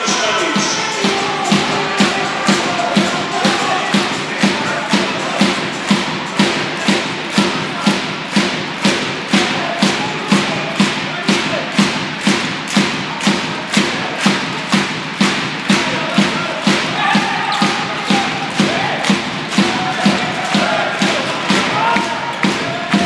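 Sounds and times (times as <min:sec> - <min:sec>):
crowd noise: 0:00.0 - 0:23.0
drum beating steadily: 0:00.0 - 0:23.0.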